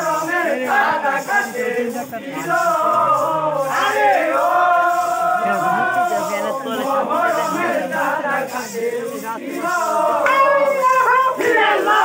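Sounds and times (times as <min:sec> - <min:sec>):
men singing in chorus: 0:00.0 - 0:12.0.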